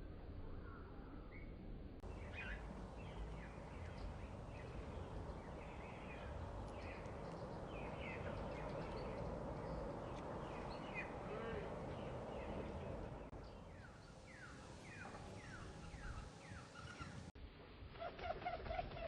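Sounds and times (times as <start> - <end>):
low background rumble: 0.0 - 17.4
small birds chirping: 2.0 - 17.3.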